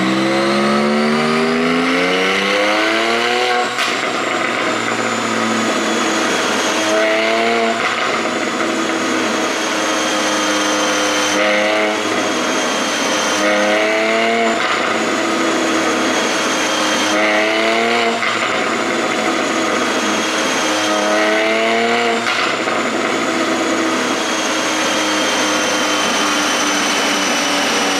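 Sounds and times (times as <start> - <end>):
car engine revving: 0.0 - 27.9
steady high whine: 0.0 - 27.9.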